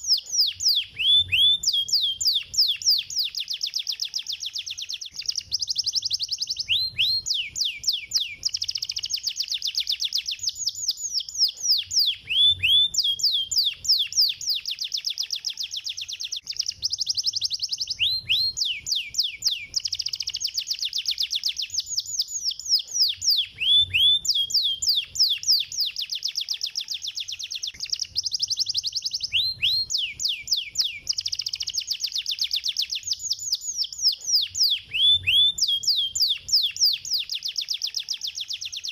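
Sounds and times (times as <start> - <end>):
canary singing trilled song: 0.0 - 38.9.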